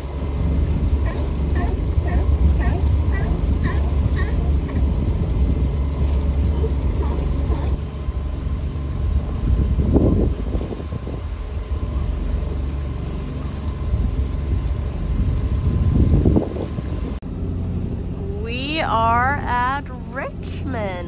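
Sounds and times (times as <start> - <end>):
boat engine droning: 0.0 - 21.0
rough engine bursts: 0.0 - 21.0.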